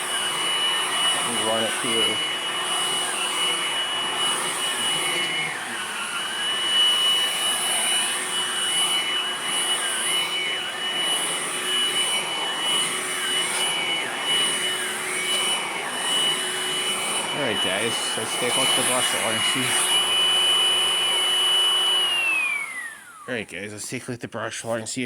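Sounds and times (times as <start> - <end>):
vacuum cleaner running: 0.0 - 23.9.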